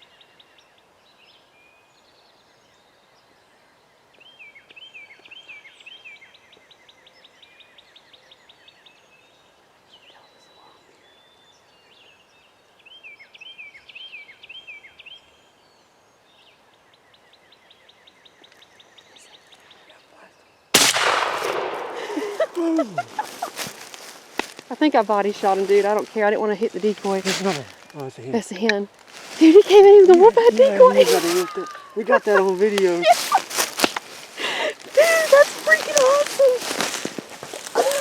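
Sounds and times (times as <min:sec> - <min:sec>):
songbirds singing: 0:00.0 - 0:38.0.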